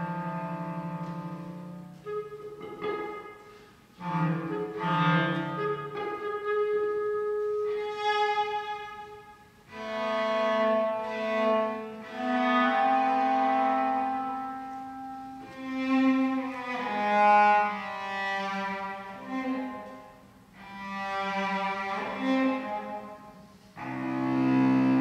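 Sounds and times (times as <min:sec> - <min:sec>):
cello: 0:00.0 - 0:25.0
clarinet: 0:00.0 - 0:25.0.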